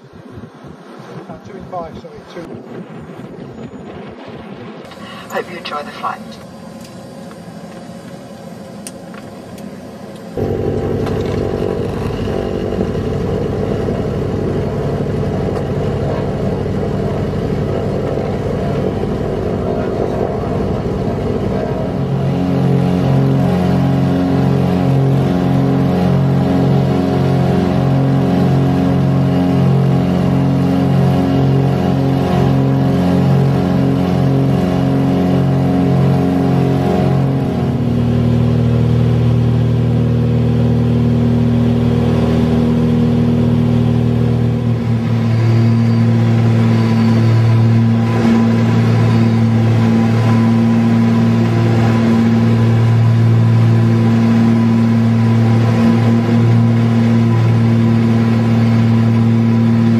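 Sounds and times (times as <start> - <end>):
propeller aircraft cabin drone: 0.0 - 59.9.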